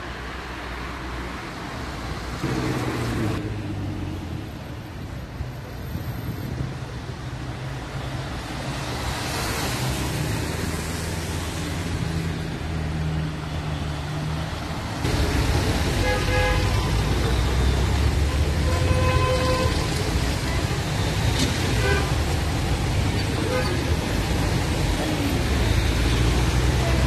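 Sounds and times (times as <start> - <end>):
cars passing on wet road: 0.0 - 4.8, 5.9 - 27.0.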